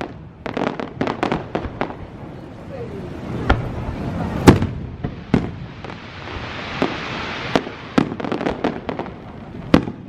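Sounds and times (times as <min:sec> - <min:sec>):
crackling hiss: 0:00.0 - 0:10.0
fireworks booming: 0:00.0 - 0:10.0.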